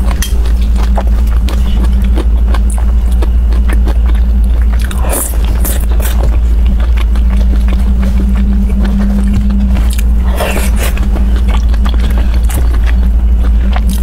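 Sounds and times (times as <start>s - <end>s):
chewing with wet mouth clicks: 0.0s - 14.0s
low hum: 0.0s - 14.0s.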